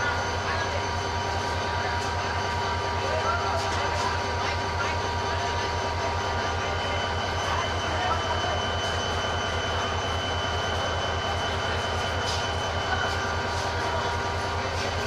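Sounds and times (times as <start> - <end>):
crowd chatter: 0.0 - 15.0
diesel locomotive idling: 0.0 - 15.0.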